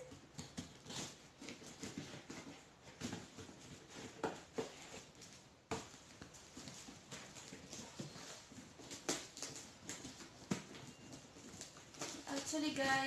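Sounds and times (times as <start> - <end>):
crackling tape: 0.0 - 13.0
cardboard being handled: 0.1 - 13.0.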